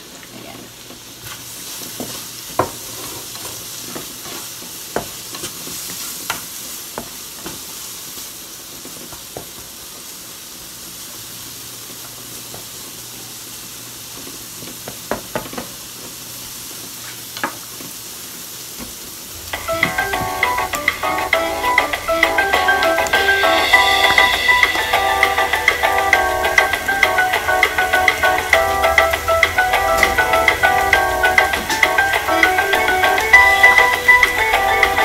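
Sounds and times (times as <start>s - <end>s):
peppers sizzling in frying pan: 0.0s - 35.0s.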